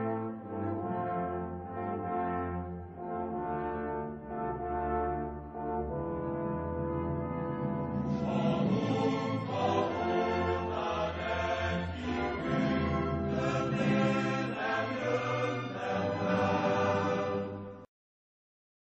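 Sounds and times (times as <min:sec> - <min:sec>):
choir with orchestra: 0:00.0 - 0:17.9.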